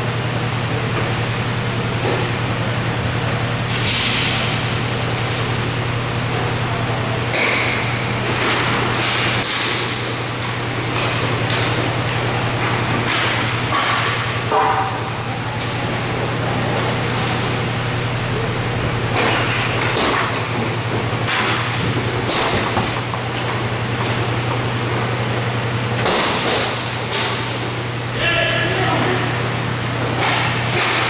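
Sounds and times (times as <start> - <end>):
steady hall hum: 0.0 - 31.0.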